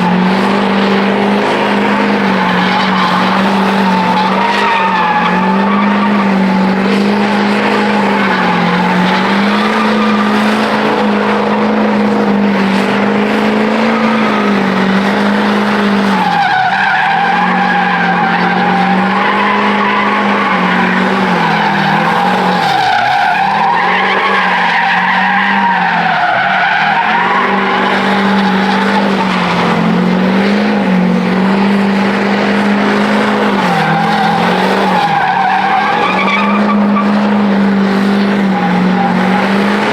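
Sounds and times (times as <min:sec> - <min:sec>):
truck engine revving high: 0:00.0 - 0:39.9
tyres squealing on pavement: 0:00.0 - 0:39.9.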